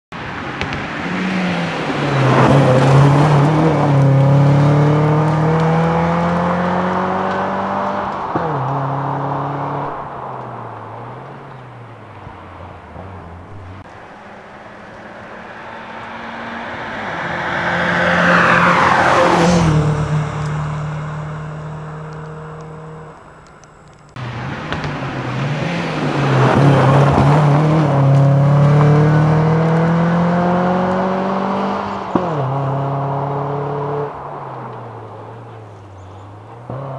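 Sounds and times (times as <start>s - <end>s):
rally car passing at speed: 0.2s - 23.2s, 24.2s - 36.9s
car engine revving: 0.6s - 36.9s.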